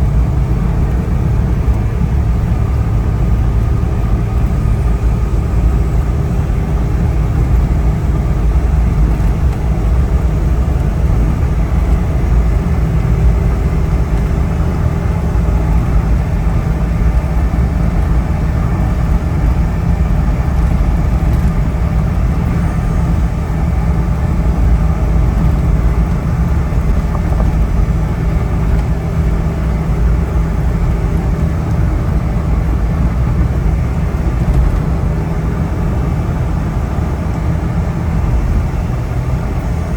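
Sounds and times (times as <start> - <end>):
road noise: 0.0 - 39.9
vehicle engine rumble: 0.0 - 39.9.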